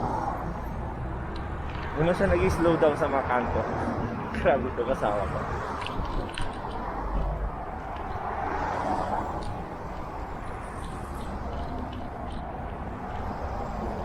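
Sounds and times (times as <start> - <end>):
road traffic noise: 0.0 - 14.0
vehicle passing: 0.0 - 14.0.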